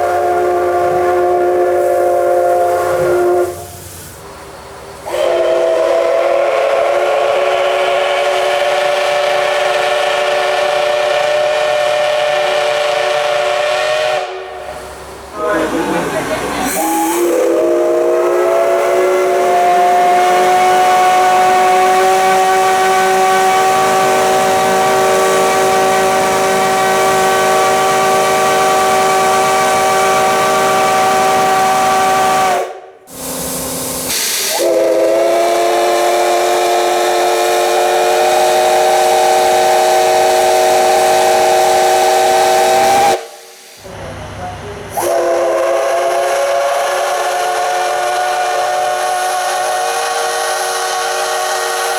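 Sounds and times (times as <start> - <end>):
steam locomotive whistle blasts: 0.0 - 4.0, 5.0 - 15.8, 16.6 - 43.8, 44.9 - 51.9.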